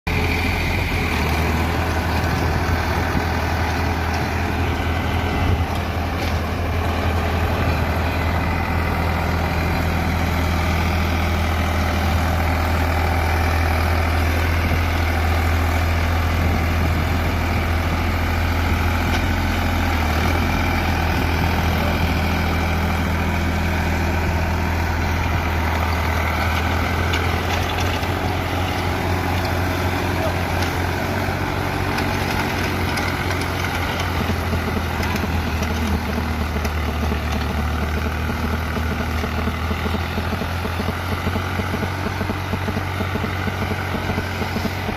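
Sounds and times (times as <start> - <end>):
tractor diesel engine droning: 0.1 - 44.9.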